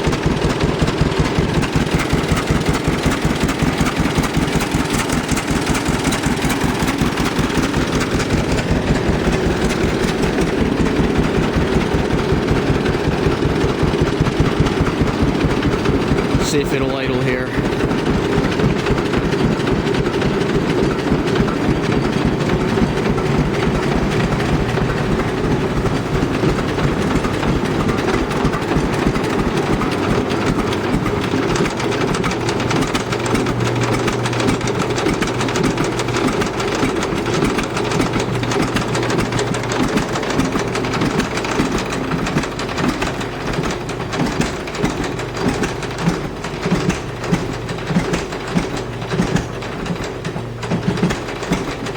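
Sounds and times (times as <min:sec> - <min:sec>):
tractor engine exhaust beat: 0:00.0 - 0:51.9.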